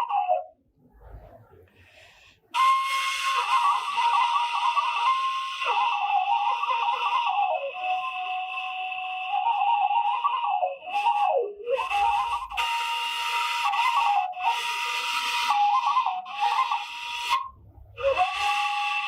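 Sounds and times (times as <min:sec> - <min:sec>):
breathy flute melody: 0:00.0 - 0:01.2, 0:02.2 - 0:19.0.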